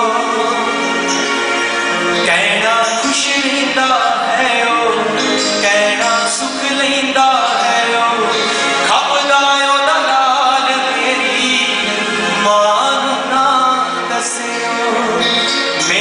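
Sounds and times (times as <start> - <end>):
man singing into microphone: 0.0 - 1.2, 2.1 - 16.0
musical accompaniment: 0.0 - 16.0.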